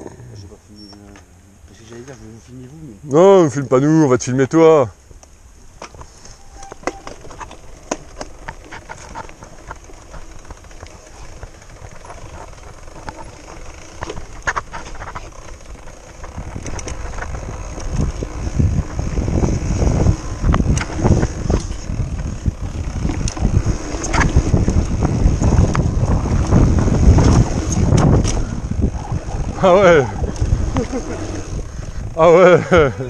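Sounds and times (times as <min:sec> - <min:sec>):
bike tyres rolling on dirt: 0:01.7 - 0:33.0
bike rattles and knocks: 0:05.0 - 0:33.0
wind buffeting microphone: 0:05.6 - 0:33.0.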